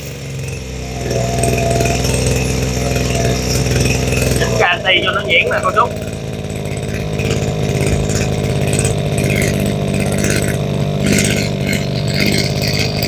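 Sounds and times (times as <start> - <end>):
brushcutter engine running: 0.0 - 13.0.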